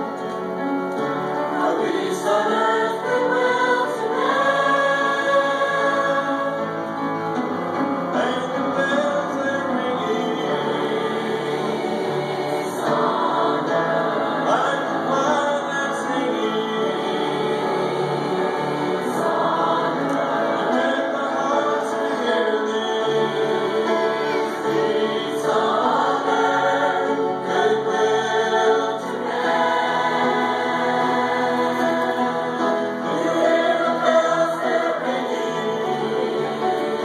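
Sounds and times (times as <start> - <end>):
mixed choir singing carol: 0.0 - 37.0.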